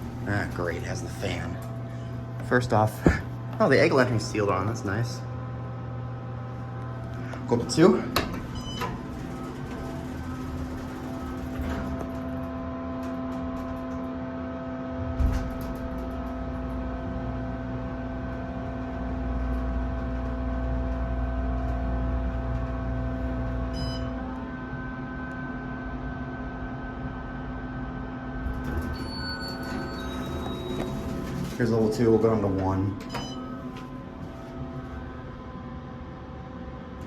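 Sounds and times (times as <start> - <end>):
elevator fan hum: 0.0 - 37.0
elevator low rumble: 0.0 - 37.0.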